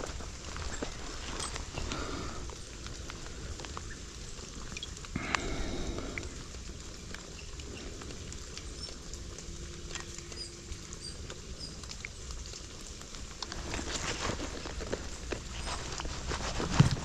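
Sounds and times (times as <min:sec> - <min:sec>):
footsteps on wet trail: 0:00.0 - 0:17.0
ticks and drips: 0:00.0 - 0:17.0.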